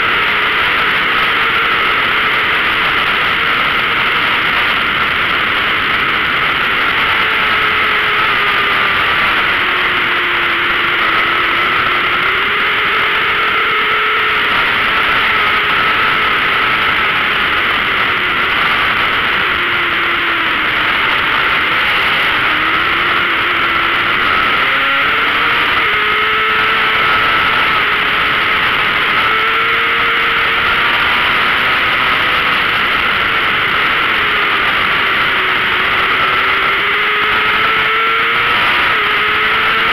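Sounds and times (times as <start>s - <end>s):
motorcycle engine at high revs: 0.0s - 39.9s
rushing wind: 0.0s - 39.9s.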